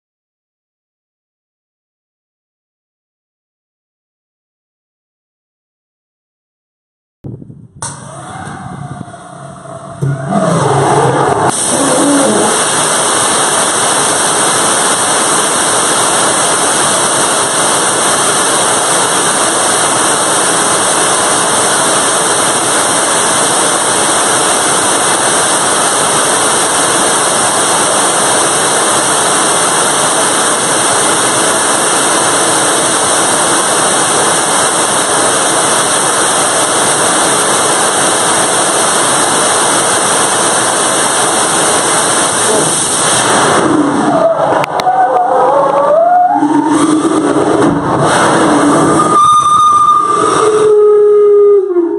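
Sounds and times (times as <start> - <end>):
rocket engine roaring: 7.7 - 51.9.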